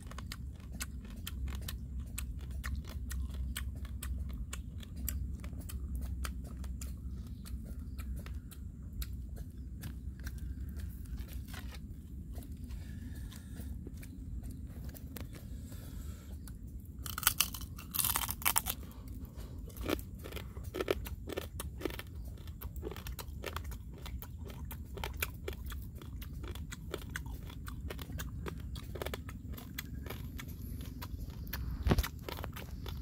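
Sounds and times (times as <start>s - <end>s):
crab shell crunching: 0.0s - 33.0s
person chewing: 0.0s - 33.0s.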